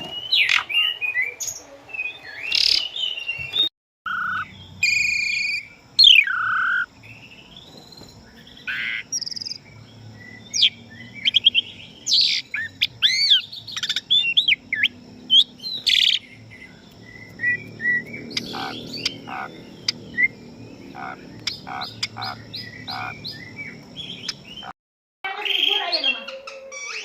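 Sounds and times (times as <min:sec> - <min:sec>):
starling singing: 0:00.0 - 0:24.7, 0:25.3 - 0:27.0.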